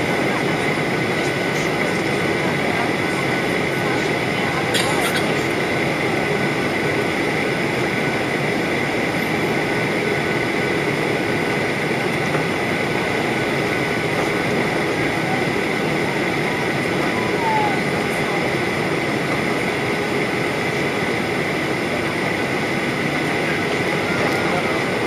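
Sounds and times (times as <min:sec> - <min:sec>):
airplane cabin engine rush: 0:00.0 - 0:25.0
steady high hum: 0:00.0 - 0:25.0.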